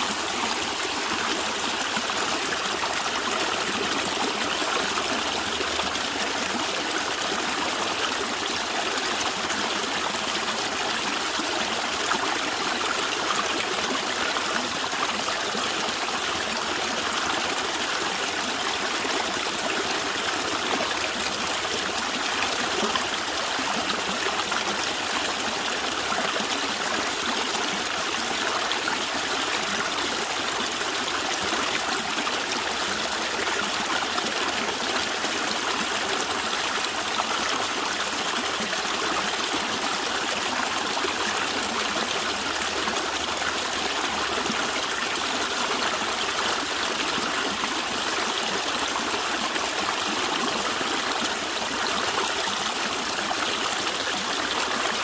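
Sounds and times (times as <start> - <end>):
stream water gurgling: 0.0 - 55.0.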